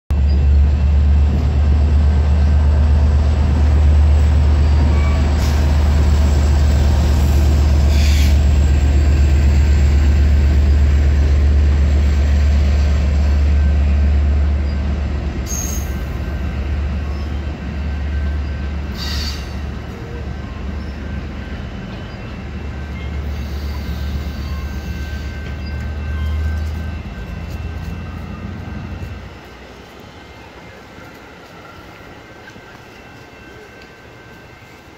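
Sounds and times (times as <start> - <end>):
train passing rumble: 0.1 - 34.9.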